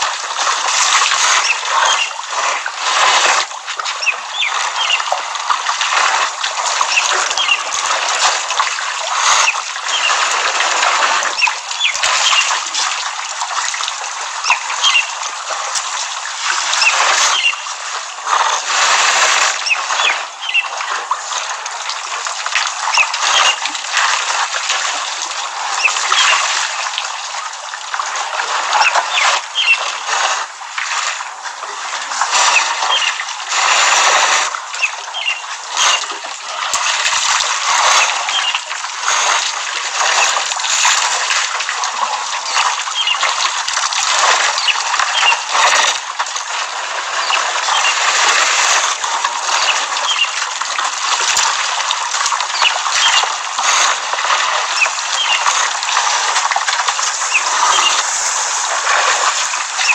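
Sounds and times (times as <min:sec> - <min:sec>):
elephants splashing water: 0:00.0 - 0:59.9.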